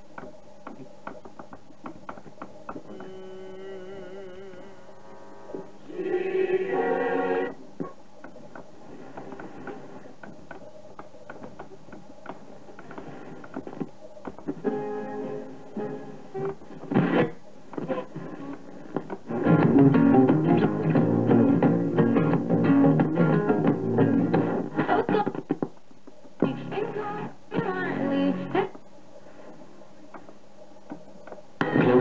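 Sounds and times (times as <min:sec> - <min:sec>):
radio clicks and crackle: 0:00.0 - 0:03.2, 0:07.6 - 0:28.9, 0:29.5 - 0:32.0.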